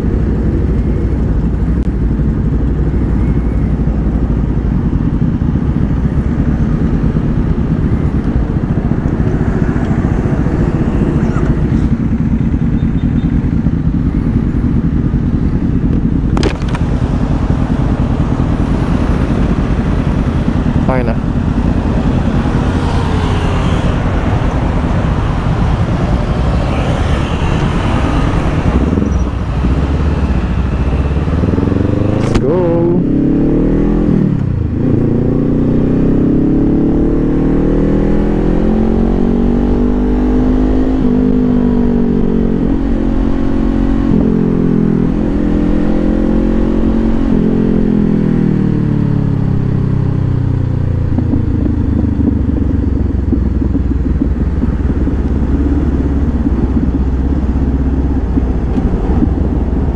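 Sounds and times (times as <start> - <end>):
motorcycle engine accelerating: 0.0 - 59.9
traffic noise: 0.0 - 59.9.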